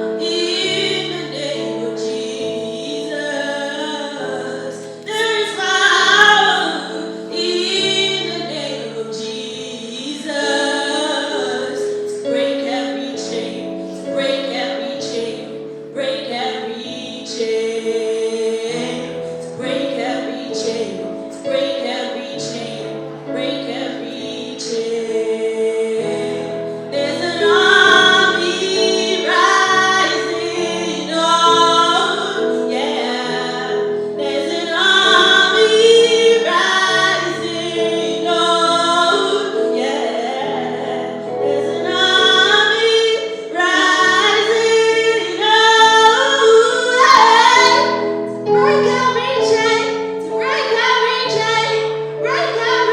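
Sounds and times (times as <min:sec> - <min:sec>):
person singing with vibrato: 0:00.0 - 0:52.9.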